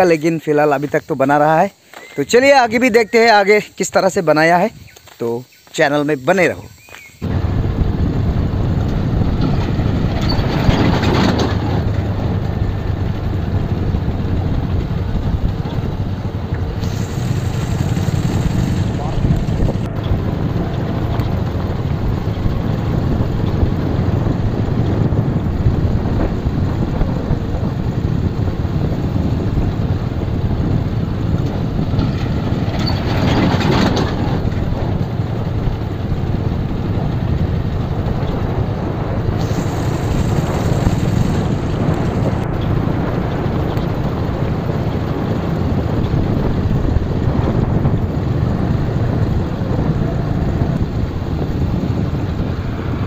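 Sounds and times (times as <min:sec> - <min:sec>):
wind rumble on microphone: 0:06.6 - 0:53.0
motorcycle engine: 0:07.2 - 0:53.0.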